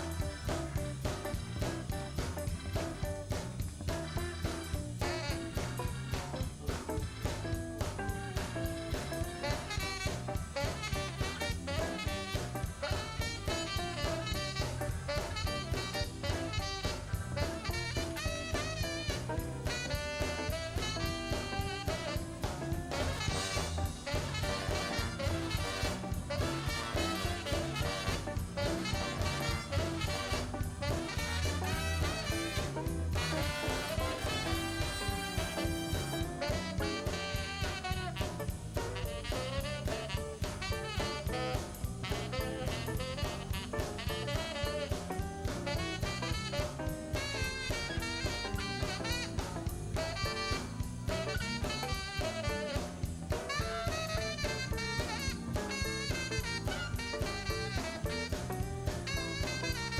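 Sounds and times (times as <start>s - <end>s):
blues band playing: 0.0s - 59.9s.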